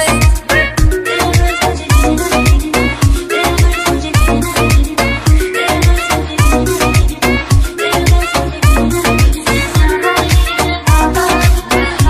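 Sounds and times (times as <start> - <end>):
dance music with deep bass: 0.0 - 12.0.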